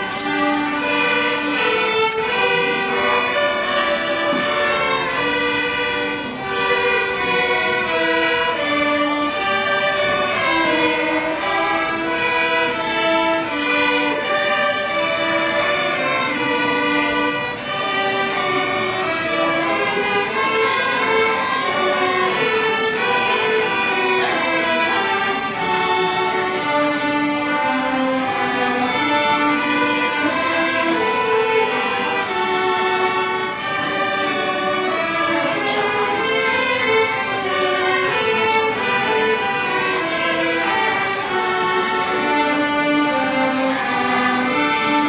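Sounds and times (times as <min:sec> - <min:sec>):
bowed strings melody: 0:00.0 - 0:45.0
instrumental ensemble playing: 0:00.0 - 0:45.0.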